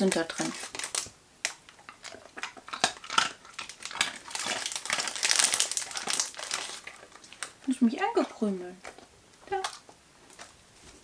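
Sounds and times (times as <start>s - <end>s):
plastic packet crinkling: 0.0s - 9.0s.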